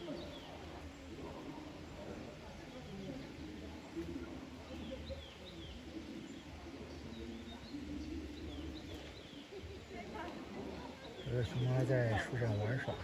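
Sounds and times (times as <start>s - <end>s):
low background murmur: 0.0s - 13.0s
small birds chirping: 0.0s - 13.0s.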